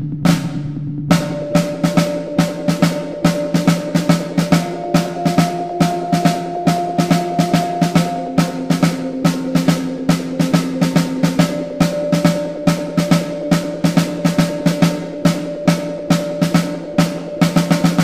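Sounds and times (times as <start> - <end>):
drum kit march rhythm: 0.0 - 18.0
sustained held tones: 1.1 - 18.0.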